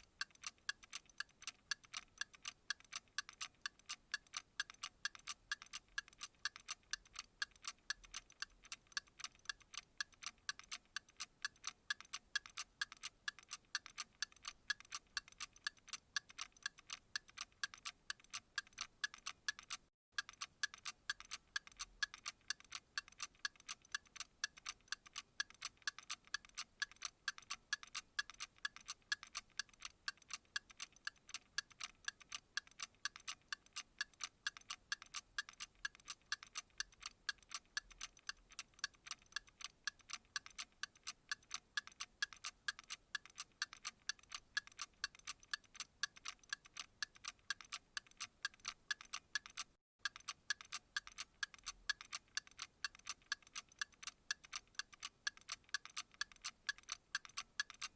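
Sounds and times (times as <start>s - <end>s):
clock ticking fast: 0.0s - 57.9s.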